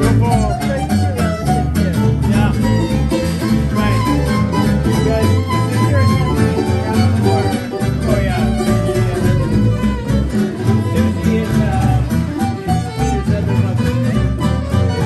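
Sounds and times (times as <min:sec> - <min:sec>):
acoustic guitars strumming: 0:00.0 - 0:15.0
violin melody: 0:00.0 - 0:15.0.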